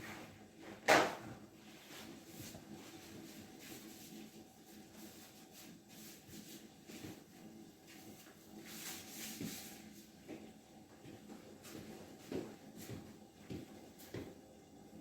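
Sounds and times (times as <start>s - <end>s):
soft rustles: 1.6s - 14.2s.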